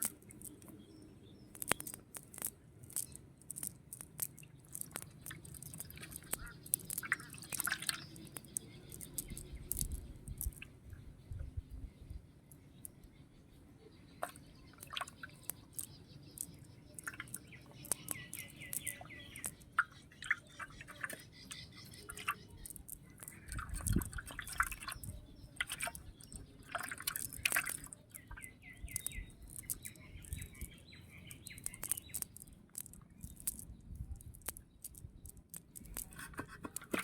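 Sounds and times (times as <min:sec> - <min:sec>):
water dripping and splashing: 0:00.0 - 0:00.8, 0:01.4 - 0:10.8, 0:14.2 - 0:37.0
small birds chirping: 0:00.0 - 0:37.0.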